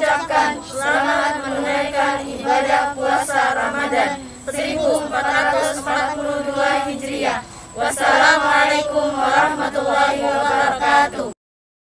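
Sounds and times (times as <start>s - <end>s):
girls chanting in unison: 0.0s - 11.4s.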